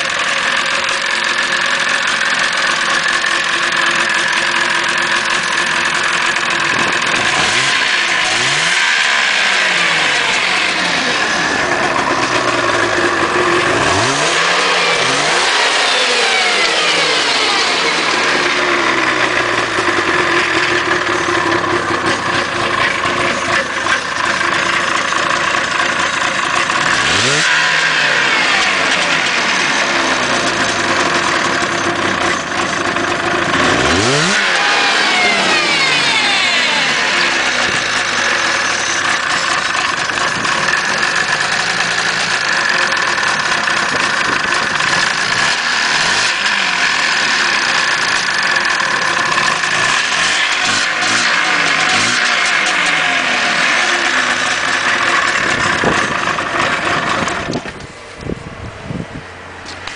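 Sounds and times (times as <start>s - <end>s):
snowmobile engine idling and revving: 0.0s - 59.9s.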